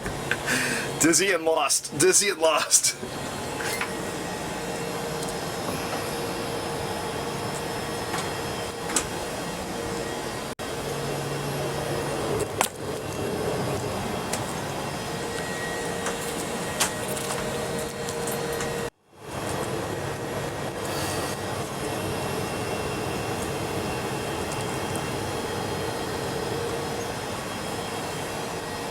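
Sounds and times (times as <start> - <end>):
ventilation fans humming: 0.0 - 28.9.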